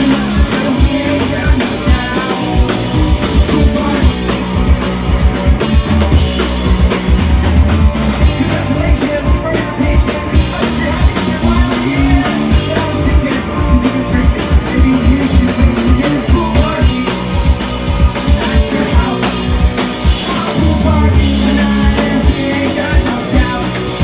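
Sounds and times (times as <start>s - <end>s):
person singing: 0.0s - 4.5s, 8.2s - 17.4s, 18.1s - 24.0s
live rock band playing: 0.0s - 24.0s.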